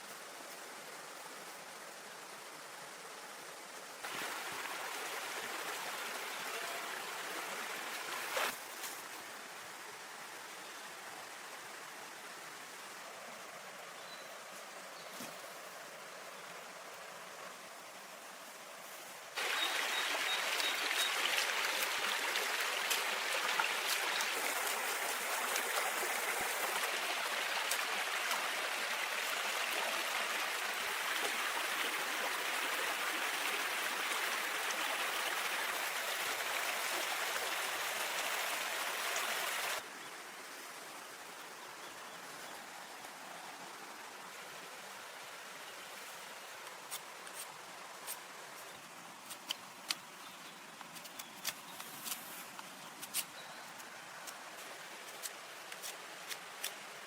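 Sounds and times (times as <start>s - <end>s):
flowing water rushing: 0.0s - 57.0s
quiet outdoor ambience: 0.0s - 57.0s.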